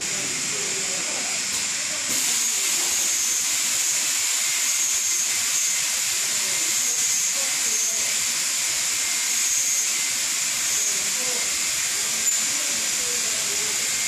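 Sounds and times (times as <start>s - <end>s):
ultrasonic cleaning machine hissing: 0.0s - 14.0s.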